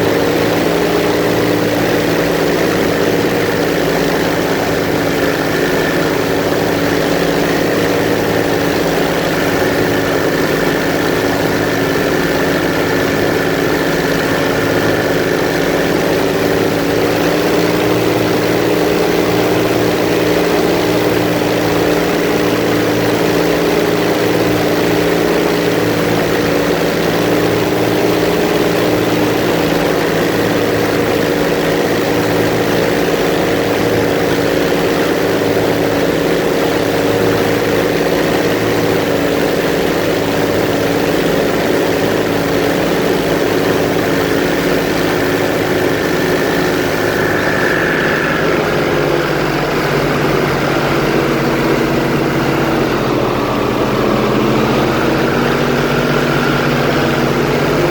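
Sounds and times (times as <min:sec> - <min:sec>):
airboat engine and propeller running: 0:00.0 - 0:57.9.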